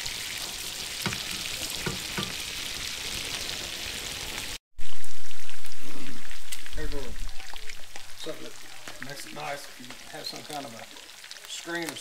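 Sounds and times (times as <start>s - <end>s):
fish sizzling in a skillet: 0.0s - 12.0s.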